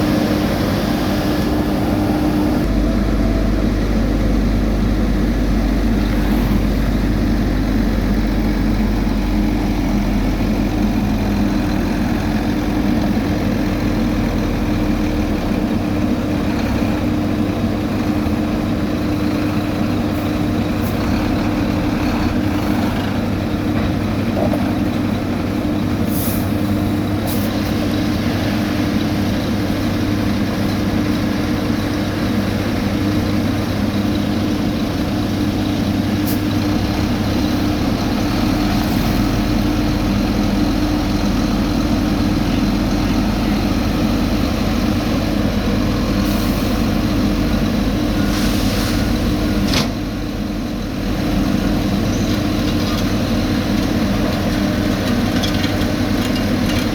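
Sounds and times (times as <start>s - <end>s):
diesel engine drone: 0.0s - 56.9s.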